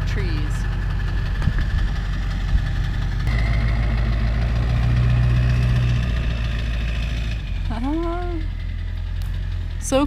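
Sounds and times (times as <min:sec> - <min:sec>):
pickup truck engine: 0:00.0 - 0:10.0.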